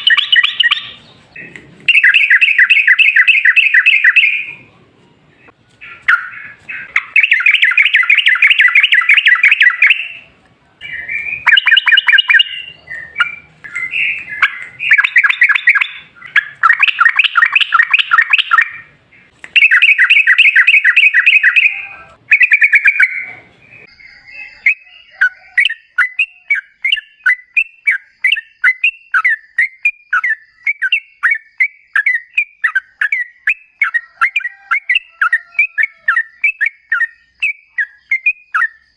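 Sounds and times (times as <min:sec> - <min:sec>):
bird sharp notes: 0:00.0 - 0:04.7, 0:05.4 - 0:38.9.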